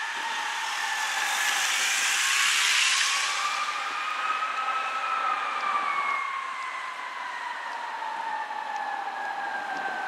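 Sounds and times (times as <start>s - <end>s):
fire engine siren wailing: 0.0s - 10.0s.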